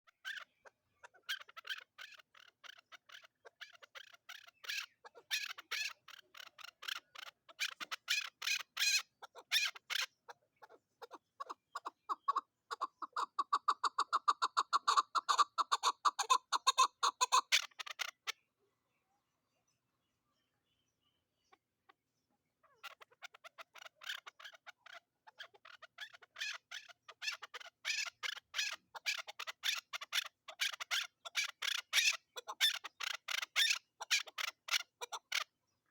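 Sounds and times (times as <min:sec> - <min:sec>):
partridge calling: 0:00.1 - 0:18.4, 0:22.6 - 0:35.5.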